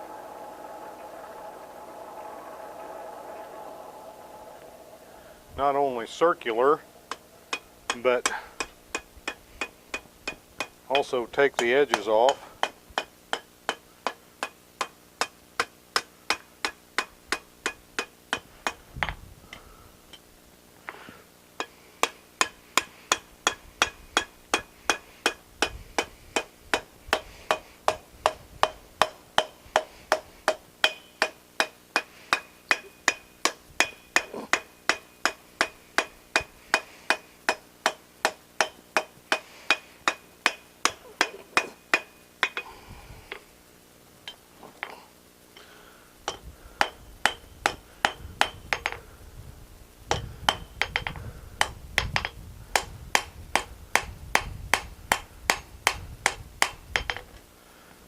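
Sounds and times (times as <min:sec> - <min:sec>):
hammer striking steel on anvil: 0:00.0 - 0:20.2, 0:21.6 - 0:43.4, 0:46.3 - 0:49.0, 0:50.1 - 0:57.2.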